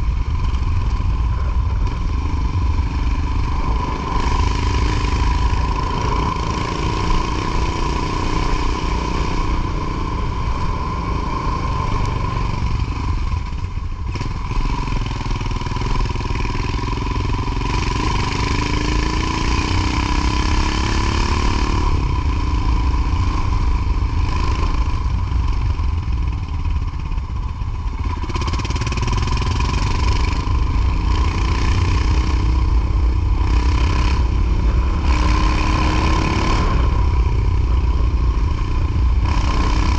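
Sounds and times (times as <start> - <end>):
motorcycle engine accelerating: 0.0 - 39.9
steady high whine: 0.0 - 39.9.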